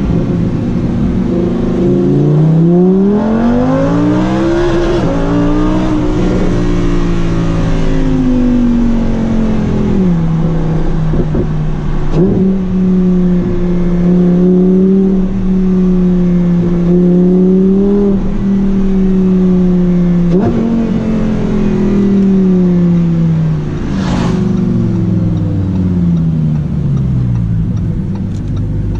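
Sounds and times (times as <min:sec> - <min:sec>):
sports car engine revving: 0:00.0 - 0:28.9.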